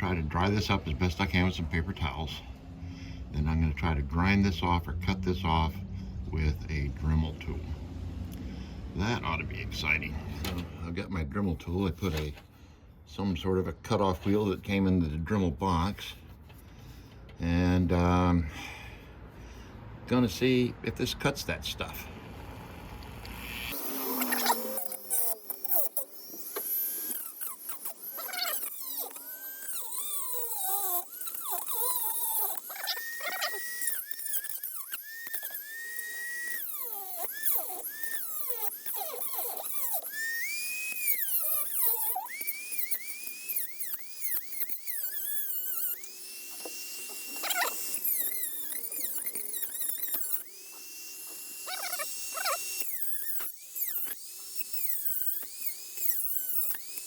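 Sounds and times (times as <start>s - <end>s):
rotary tool cutting whine: 0.0s - 12.5s, 19.5s - 57.0s.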